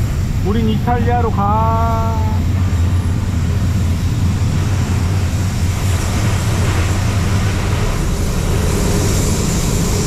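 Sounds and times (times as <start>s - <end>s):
train rumble and rushing: 0.0s - 10.0s.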